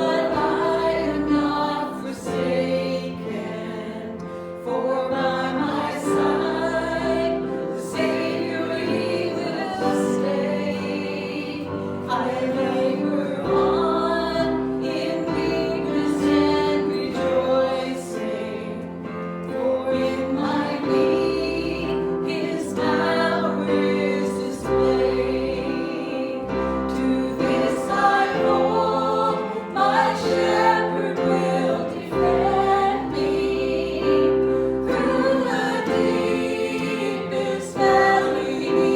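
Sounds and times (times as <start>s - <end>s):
group singing a worship song: 0.0s - 38.9s.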